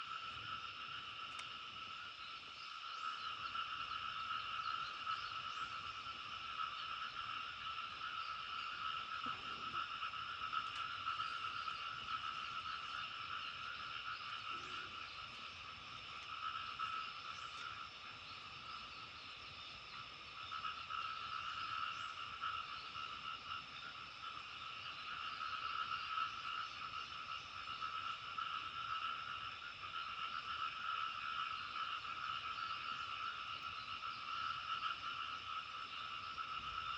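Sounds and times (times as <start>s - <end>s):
frogs croaking in chorus: 0.0s - 36.9s.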